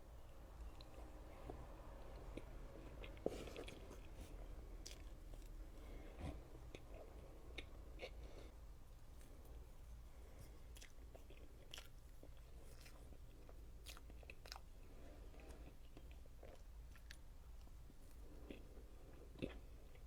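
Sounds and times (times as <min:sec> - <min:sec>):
person chewing soft cake: 0:00.6 - 0:20.0.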